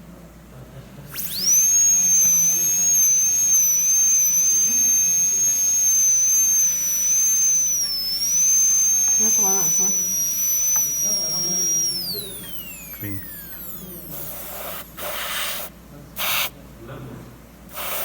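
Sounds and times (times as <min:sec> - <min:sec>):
dental drill whining: 0:01.1 - 0:15.7.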